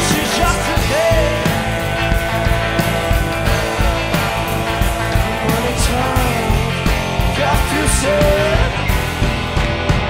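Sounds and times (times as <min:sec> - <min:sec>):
drum beat: 0:00.0 - 0:10.0
electric guitars: 0:00.0 - 0:10.0.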